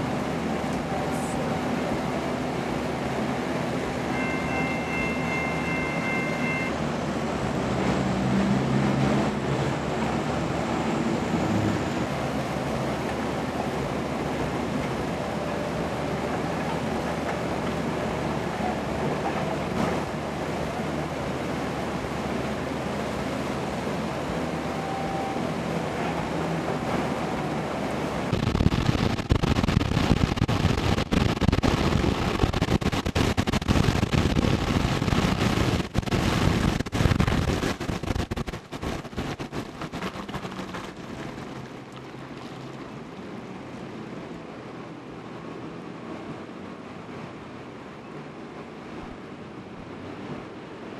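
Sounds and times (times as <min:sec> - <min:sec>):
engine humming: 0:00.0 - 0:50.9
water rushing: 0:00.0 - 0:50.9.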